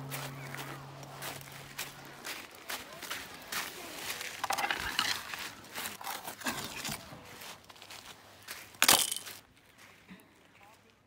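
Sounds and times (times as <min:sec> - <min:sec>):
footsteps crunching on pebbles: 0:00.0 - 0:10.7.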